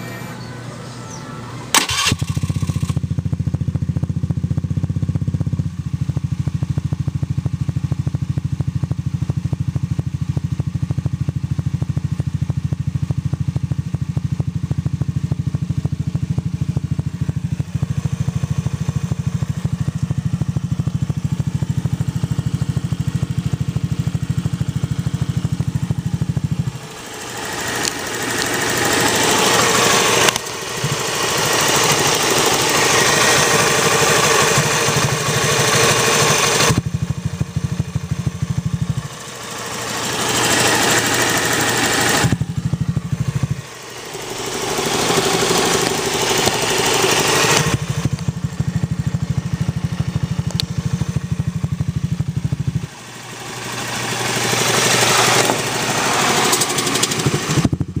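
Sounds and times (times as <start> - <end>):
scooter engine idling: 0.0 - 58.0.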